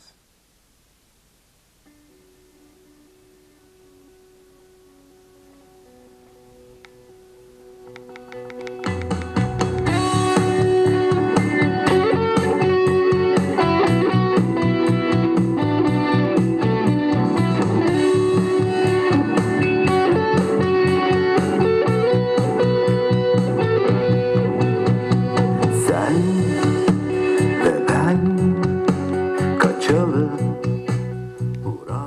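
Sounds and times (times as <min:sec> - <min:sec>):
guitar song through smart speaker: 0:00.0 - 0:32.0.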